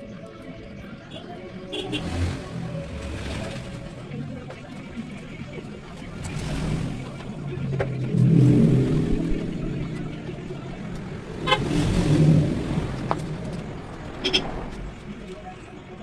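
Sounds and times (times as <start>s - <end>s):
vehicles passing on road: 0.0s - 16.0s.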